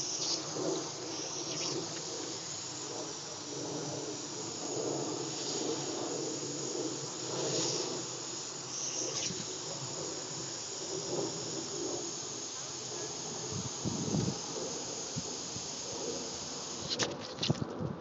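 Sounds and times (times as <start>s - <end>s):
sprinkler spraying water: 0.0s - 17.7s.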